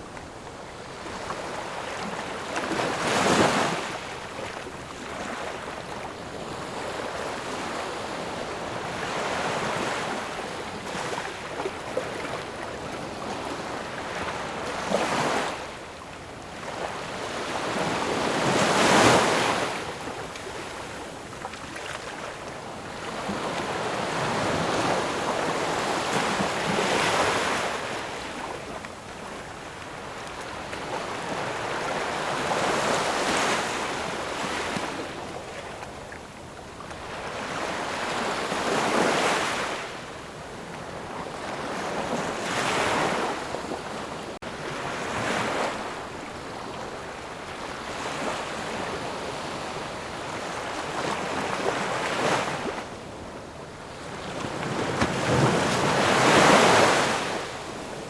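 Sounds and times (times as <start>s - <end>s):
ocean waves washing ashore: 0.0s - 58.0s.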